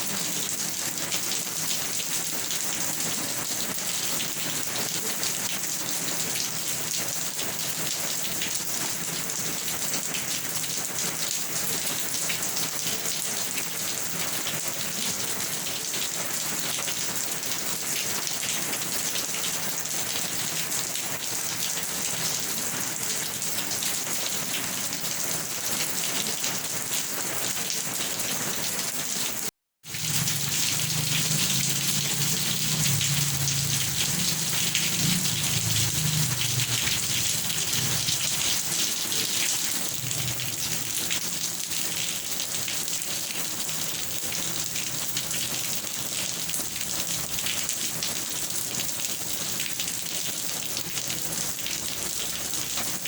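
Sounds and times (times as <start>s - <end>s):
rain falling on a surface: 0.0s - 53.0s.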